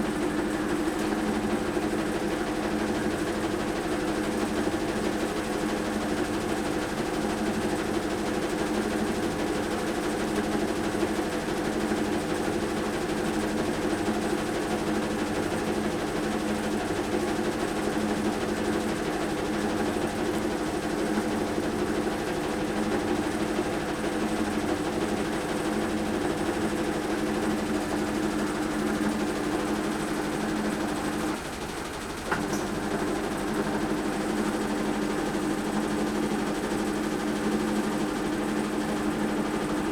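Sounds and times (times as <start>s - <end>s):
washing machine spinning drone: 0.0s - 39.9s.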